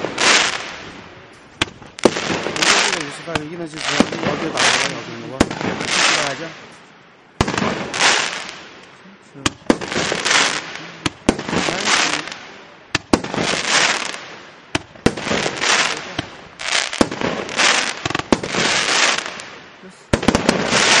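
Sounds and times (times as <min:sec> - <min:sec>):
fireworks bangs and crackle: 0:00.0 - 0:21.0.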